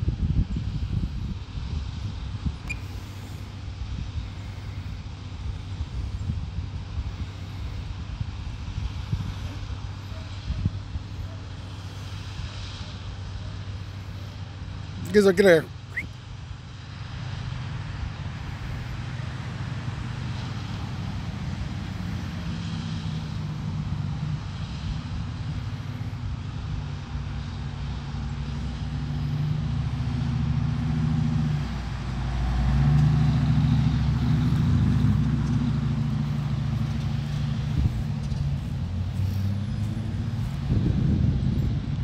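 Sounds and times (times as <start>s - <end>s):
low motor drone with hums: 0.0s - 15.1s, 15.7s - 42.0s.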